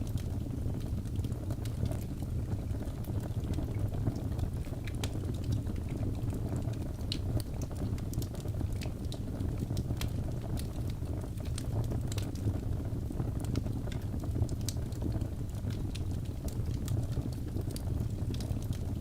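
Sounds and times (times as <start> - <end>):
burning wood crackling: 0.0 - 19.0
low rumble of flames: 0.0 - 19.0.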